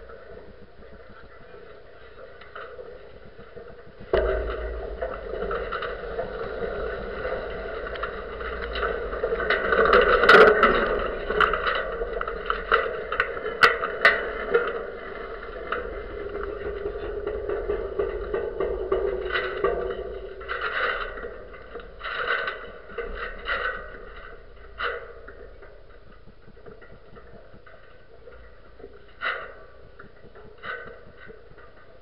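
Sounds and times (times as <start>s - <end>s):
low rumble: 0.0s - 32.0s
wind and rigging noise: 0.0s - 32.0s.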